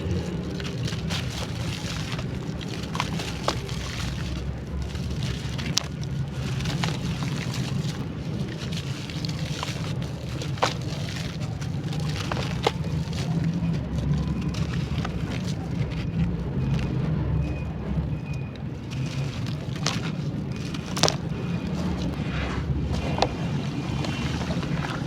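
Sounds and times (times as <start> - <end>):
wet charcoal crackling: 0.0 - 25.0.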